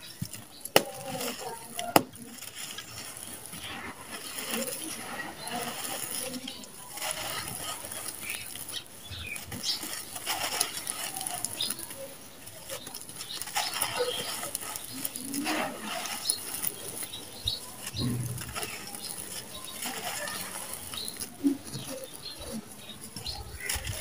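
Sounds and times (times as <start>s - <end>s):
sand pouring and hissing: 0.0s - 22.2s.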